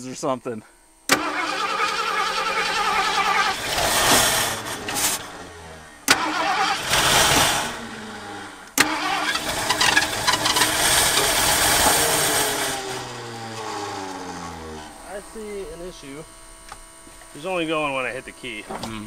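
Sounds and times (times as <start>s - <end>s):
car engine cranking: 0.8s - 19.0s
engine running roughly: 1.0s - 19.0s.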